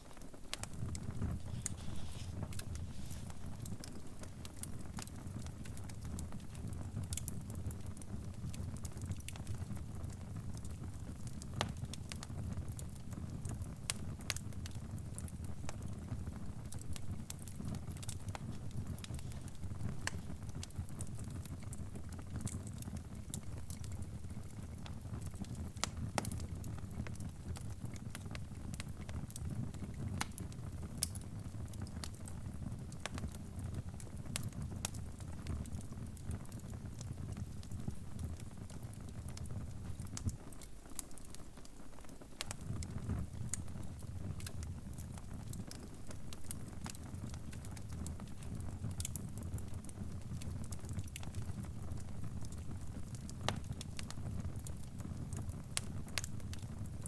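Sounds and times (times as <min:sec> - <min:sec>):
fire crackling and rumbling: 0:00.0 - 0:57.0
fire pops and snaps: 0:00.0 - 0:57.0.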